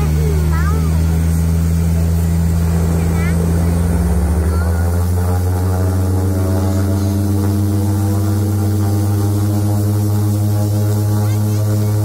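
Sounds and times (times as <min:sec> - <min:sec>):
turboprop engine drone in cabin: 0:00.0 - 0:12.0.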